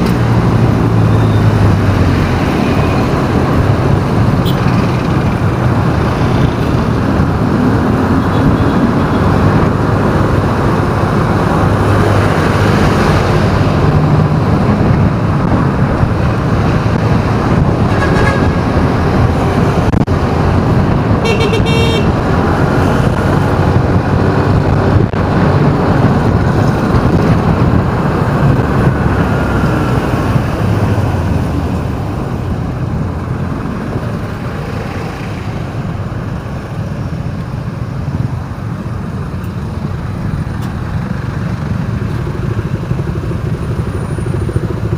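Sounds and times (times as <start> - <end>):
vehicle engine and road noise: 0.0 - 44.9.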